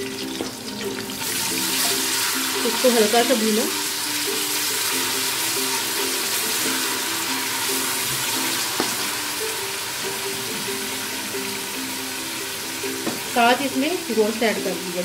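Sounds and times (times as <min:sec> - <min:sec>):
background music melody: 0:00.0 - 0:15.0
oil sizzling: 0:00.0 - 0:15.0.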